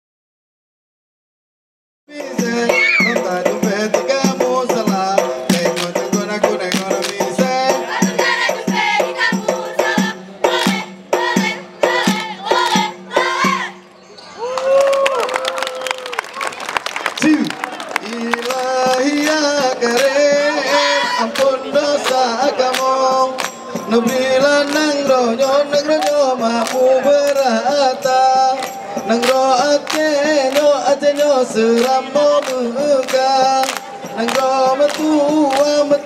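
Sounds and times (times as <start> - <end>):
rhythmic percussion strikes: 2.1 - 13.9, 17.2 - 36.0.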